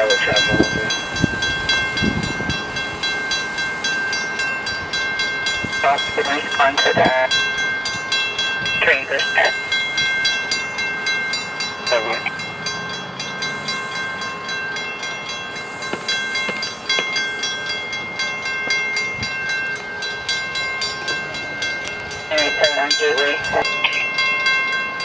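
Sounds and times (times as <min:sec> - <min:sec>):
railroad crossing bell ringing: 0:00.0 - 0:25.0.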